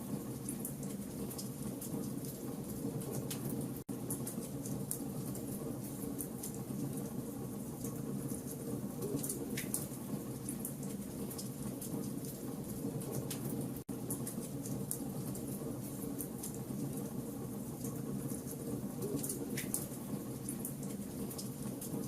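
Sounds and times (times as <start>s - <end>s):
low fire rumble: 0.0s - 22.0s
wood fire crackling and popping: 0.3s - 22.0s.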